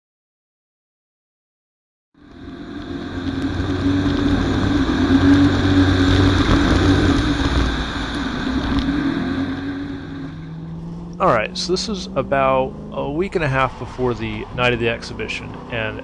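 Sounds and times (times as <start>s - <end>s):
car engine at high revs: 2.2s - 16.0s.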